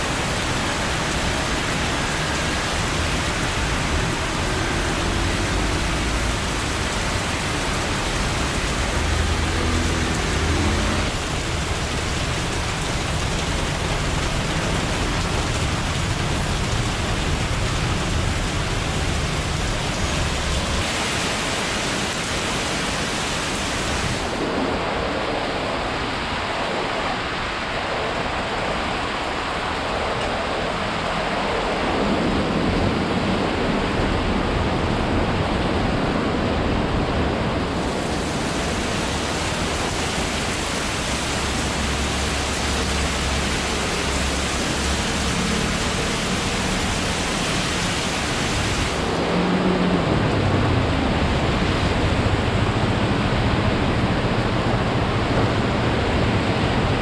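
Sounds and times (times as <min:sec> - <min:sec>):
heavy rain and wind: 0:00.0 - 0:57.0.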